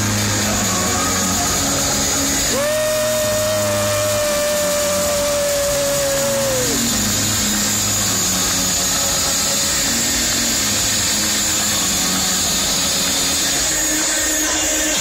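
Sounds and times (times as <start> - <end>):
distorted electronic dance music: 0.0 - 15.0.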